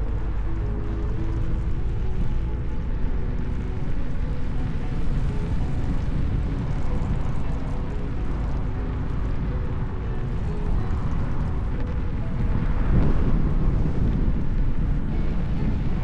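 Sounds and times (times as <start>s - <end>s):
faint steady tones: 0.0s - 16.0s
wheel rolling noise: 0.0s - 16.0s
wind buffeting microphone: 0.0s - 16.0s.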